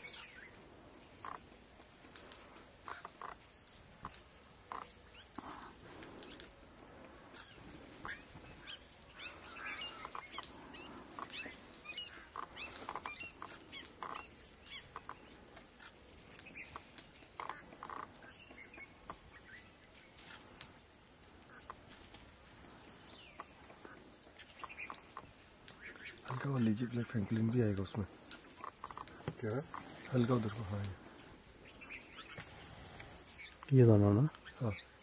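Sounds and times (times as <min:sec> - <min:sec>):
bird calls and chirps: 0:00.0 - 0:20.8, 0:21.4 - 0:22.1, 0:22.7 - 0:35.0.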